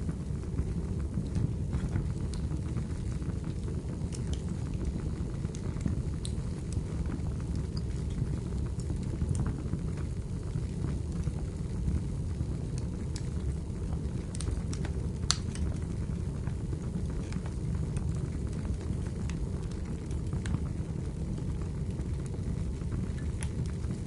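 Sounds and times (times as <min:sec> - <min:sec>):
firewood crackling and popping: 0:00.0 - 0:24.0
low rumble of flames: 0:00.0 - 0:24.0.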